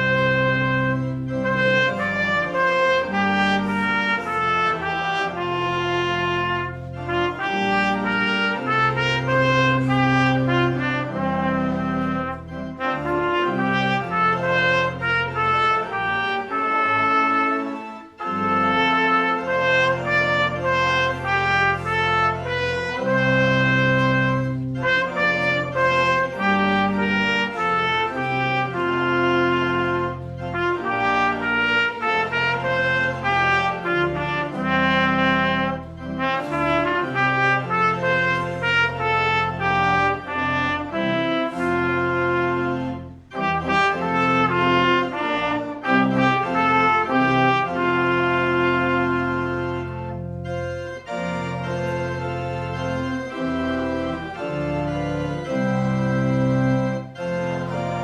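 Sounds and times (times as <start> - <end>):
brassy instrumental music: 0.0 - 58.0.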